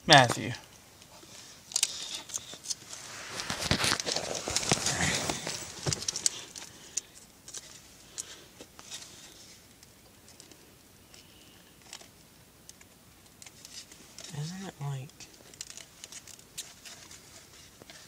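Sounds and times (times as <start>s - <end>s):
plastic packaging clicking and crinkling: 1.6s - 18.0s.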